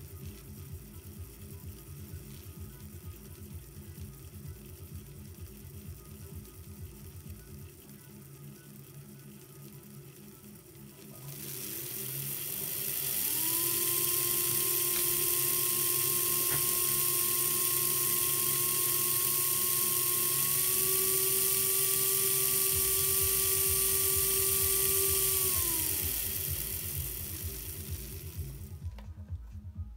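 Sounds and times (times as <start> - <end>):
model train motor whining: 0.0 - 28.9.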